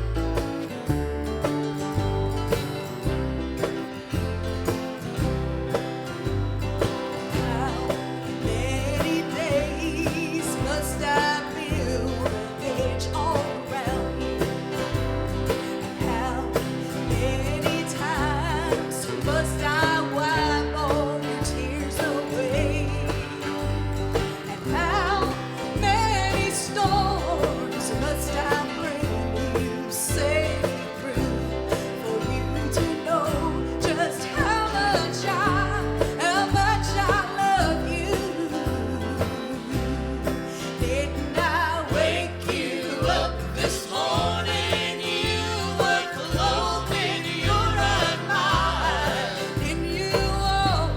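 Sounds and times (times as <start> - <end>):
steady bass line: 0.0 - 50.9
gospel singing with accompaniment: 2.8 - 50.9.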